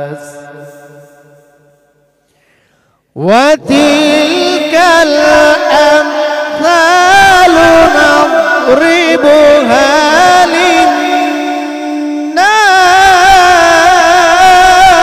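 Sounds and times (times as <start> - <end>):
solo voice chanting: 0.0 - 1.8, 3.1 - 15.0.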